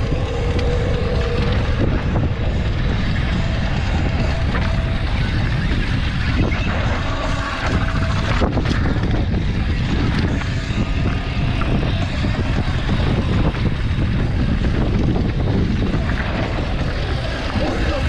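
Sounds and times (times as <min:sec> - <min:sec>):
bike tyres on dirt and stones: 0:00.0 - 0:18.0
wind buffeting microphone: 0:00.0 - 0:18.0.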